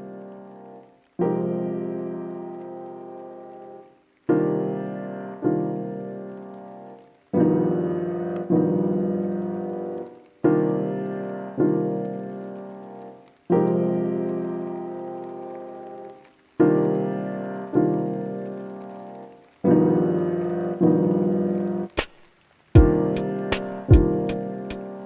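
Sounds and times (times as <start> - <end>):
slow solo piano chords: 0.0 - 22.0, 22.8 - 25.0.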